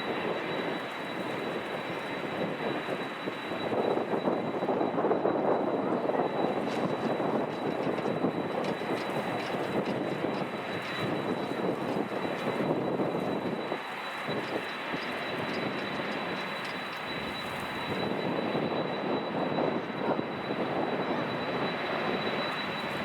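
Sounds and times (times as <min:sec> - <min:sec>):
airliner engine noise: 0:00.0 - 0:23.0
wind buffeting microphone: 0:00.0 - 0:23.0.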